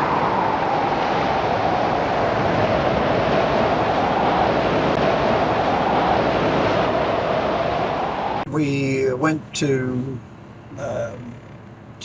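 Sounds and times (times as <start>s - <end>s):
heavy sea: 0.0s - 10.2s
storm wind roaring: 0.0s - 11.1s
droning hum: 0.0s - 12.0s.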